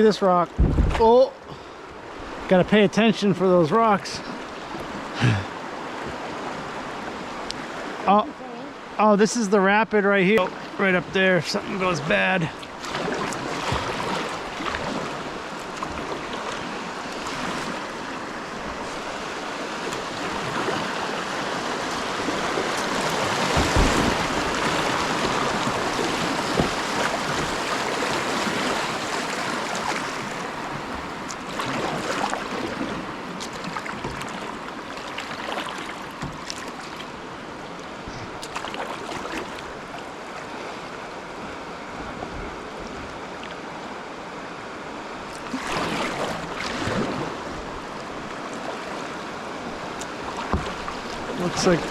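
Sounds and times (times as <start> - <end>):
rushing whitewater: 0.0 - 51.9
kayak splashing: 10.1 - 51.9.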